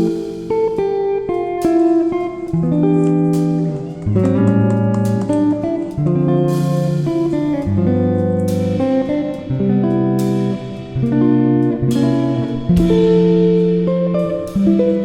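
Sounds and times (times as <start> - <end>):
plucked guitar chords with beat: 0.0 - 15.0.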